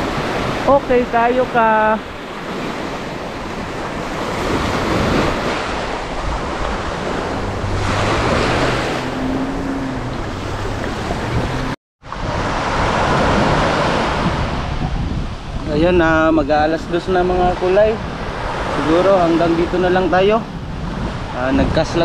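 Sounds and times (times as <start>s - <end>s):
surf breaking on a beach: 0.0s - 22.0s
wind buffeting microphone: 0.0s - 22.0s.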